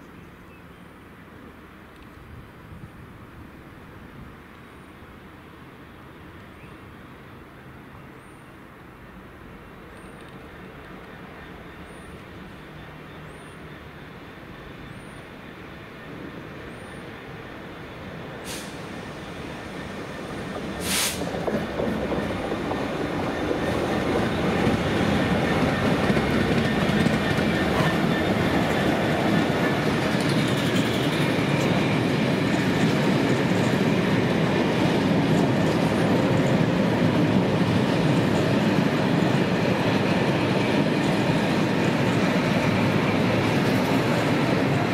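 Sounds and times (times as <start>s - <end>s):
train passing rumble: 8.6s - 44.9s.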